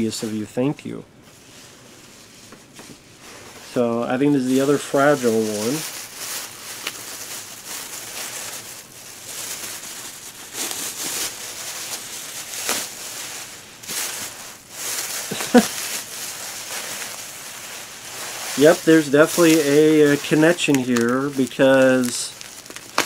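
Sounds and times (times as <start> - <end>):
packaging rustling and crinkling: 1.3 - 23.0.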